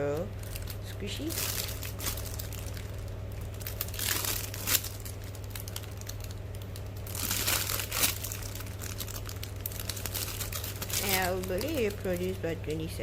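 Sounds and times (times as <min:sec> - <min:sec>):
low steady hum: 0:00.0 - 0:13.0
plastic packaging crinkling: 0:00.0 - 0:13.0.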